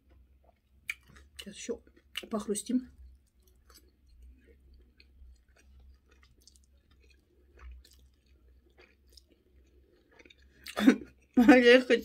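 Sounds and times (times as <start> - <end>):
chewing crispy food: 0.0 - 11.6.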